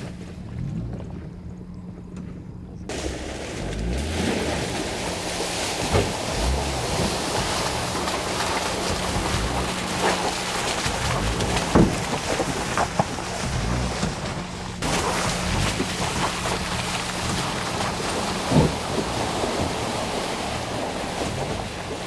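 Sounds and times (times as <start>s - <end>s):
engine running low: 0.0s - 22.0s
tyres splashing in mud and water: 2.9s - 22.0s.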